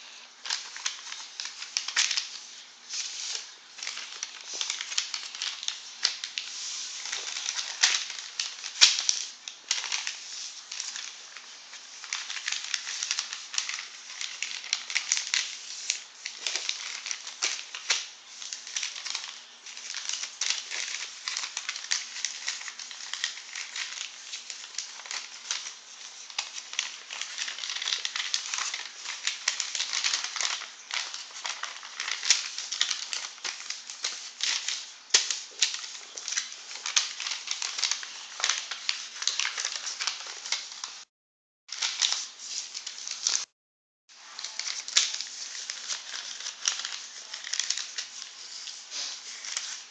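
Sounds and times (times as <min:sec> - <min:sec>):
paper rustling and crinkling: 0:00.0 - 0:41.1, 0:41.7 - 0:43.5, 0:44.1 - 0:49.9.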